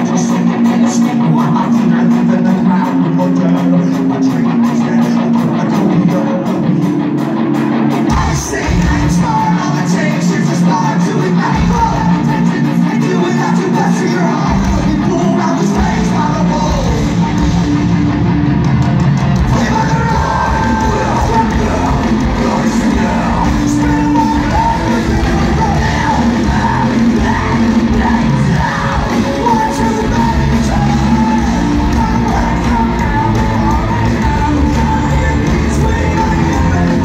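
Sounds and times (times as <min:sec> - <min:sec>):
singer yelling and singing: 0:00.0 - 0:07.2, 0:08.0 - 0:18.5, 0:19.2 - 0:37.0
rock band playing live: 0:00.0 - 0:37.0.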